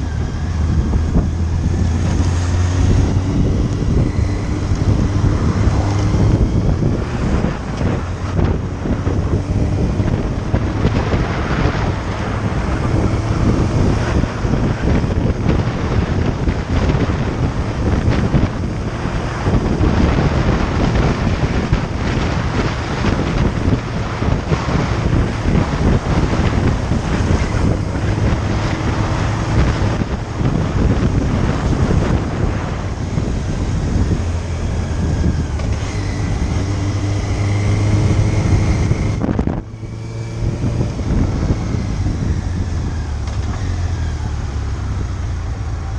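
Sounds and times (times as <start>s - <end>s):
motorcycle engine hum: 0.0s - 45.9s
wind buffeting microphone: 0.0s - 45.9s.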